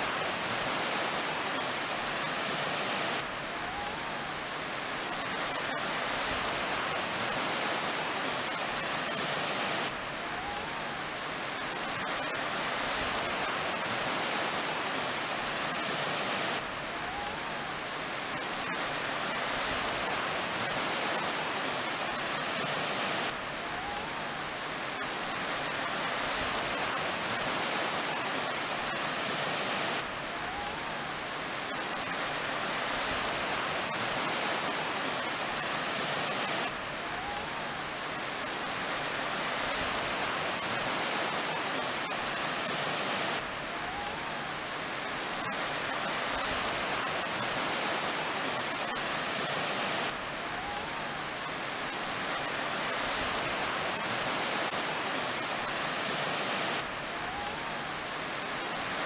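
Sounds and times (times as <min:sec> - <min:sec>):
waves breaking: 0:00.0 - 0:59.0.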